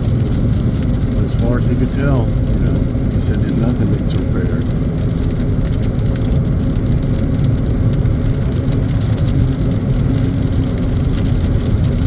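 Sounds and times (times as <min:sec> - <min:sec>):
car road and engine rumble: 0:00.0 - 0:12.0
rain ticking on car: 0:00.0 - 0:12.0.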